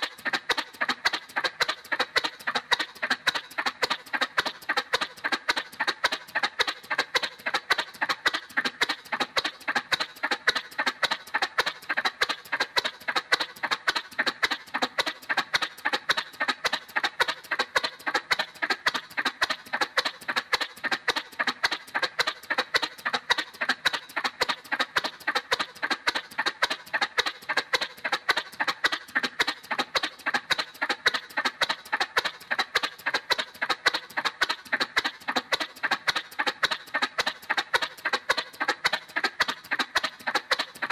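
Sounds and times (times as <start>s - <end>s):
cartoon motorcycle putt-putt: 0.0s - 40.9s.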